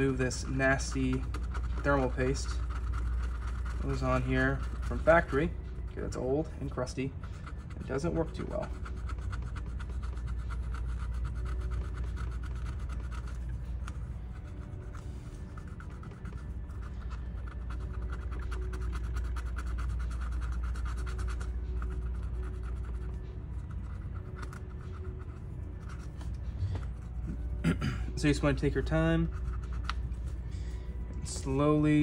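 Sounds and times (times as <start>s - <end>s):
cotton swab scratching: 0.0s - 32.0s
steady low hum: 0.0s - 32.0s.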